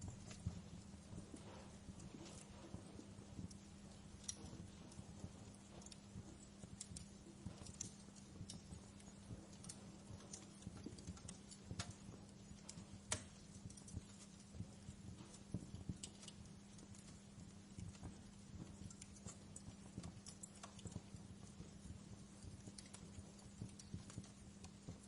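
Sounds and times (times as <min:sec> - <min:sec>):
steady low hum: 0:00.0 - 0:25.0
wood fire crackling: 0:00.0 - 0:25.0.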